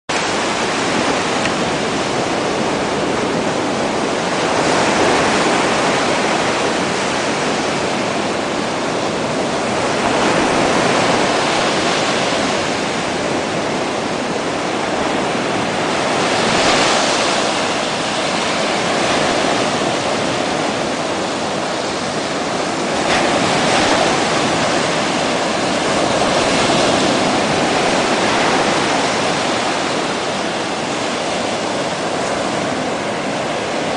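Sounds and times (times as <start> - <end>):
waves breaking on sandy beach: 0.1 - 33.9.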